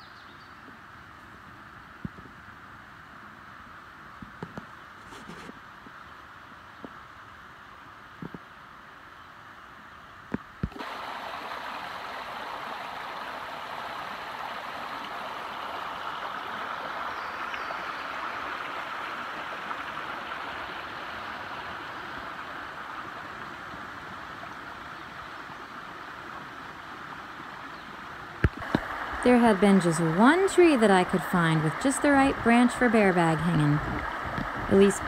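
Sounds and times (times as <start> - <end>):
stream babbling: 0.1 - 35.0.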